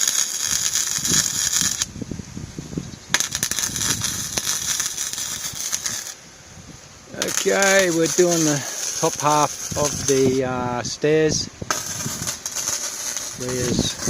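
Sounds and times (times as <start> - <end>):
arc welding crackle: 0.0 - 2.1, 3.0 - 6.3, 7.1 - 14.0.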